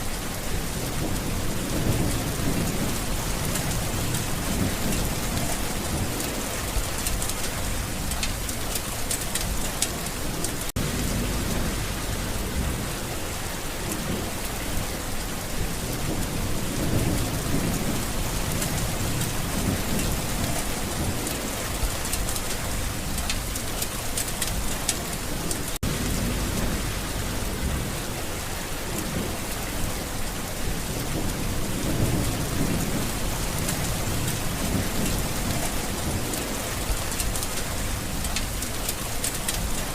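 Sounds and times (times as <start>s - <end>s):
steady rain falling: 0.0s - 39.9s
thunder rumbles: 0.2s - 39.9s.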